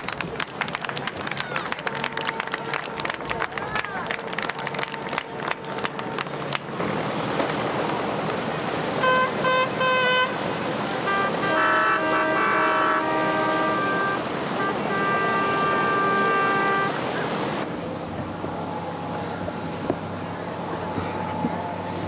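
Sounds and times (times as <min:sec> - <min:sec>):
water noise: 0:00.0 - 0:22.0
wind: 0:00.0 - 0:22.0
boat horns: 0:01.3 - 0:07.1, 0:08.6 - 0:22.0.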